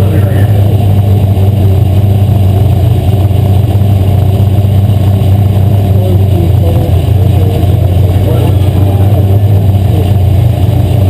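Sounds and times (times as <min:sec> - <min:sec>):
race car engine running loud: 0:00.0 - 0:11.0.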